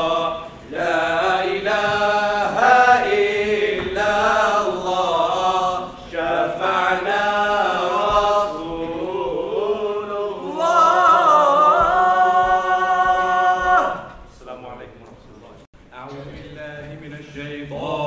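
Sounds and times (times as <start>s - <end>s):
men singing unaccompanied chant: 0.0s - 14.2s, 16.1s - 18.0s.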